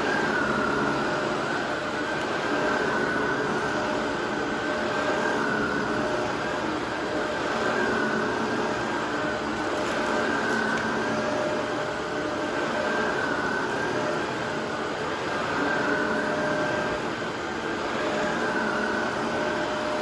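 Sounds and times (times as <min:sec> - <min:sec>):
vacuum cleaner whining: 0:00.0 - 0:20.0.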